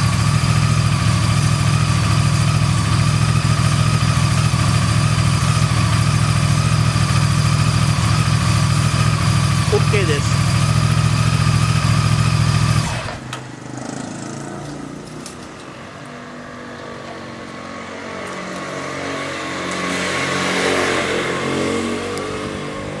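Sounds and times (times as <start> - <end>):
motorcycle engine accelerating: 0.0 - 15.6, 16.2 - 23.0.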